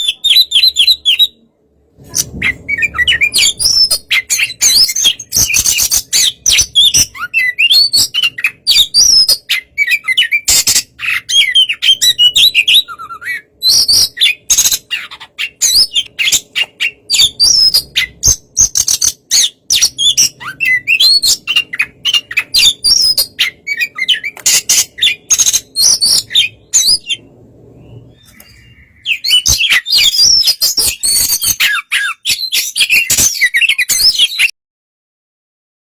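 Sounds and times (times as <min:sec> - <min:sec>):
bird singing whistled phrases: 0:02.4 - 0:27.2, 0:27.8 - 0:34.5.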